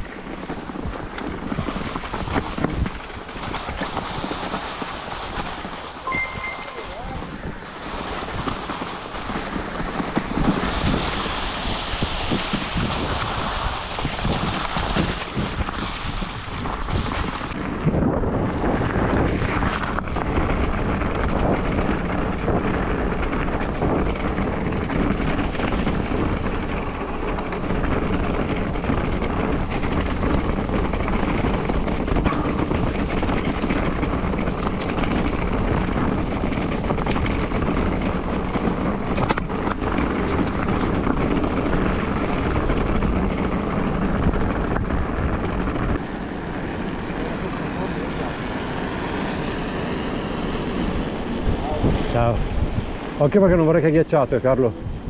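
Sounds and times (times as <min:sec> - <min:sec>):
bike rattling over stones: 0:00.0 - 0:06.1, 0:06.8 - 0:55.0
bike tyres rolling through leaves: 0:00.0 - 0:55.0
wind on microphone: 0:00.0 - 0:55.0.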